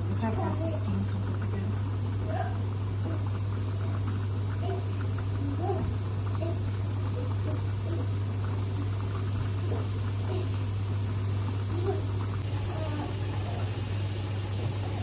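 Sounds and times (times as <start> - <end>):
low steady hum: 0.0 - 15.0
pressure cooker hissing steam: 0.0 - 15.0.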